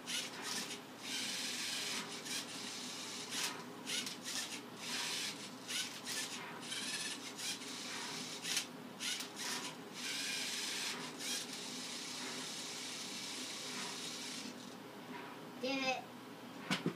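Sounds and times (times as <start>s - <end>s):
robot motors running: 0.0s - 14.8s.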